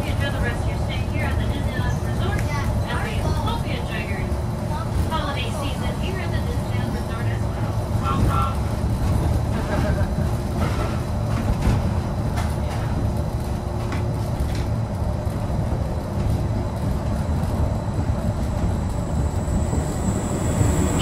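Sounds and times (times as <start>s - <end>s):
monorail rumbling along beam: 0.0s - 21.0s.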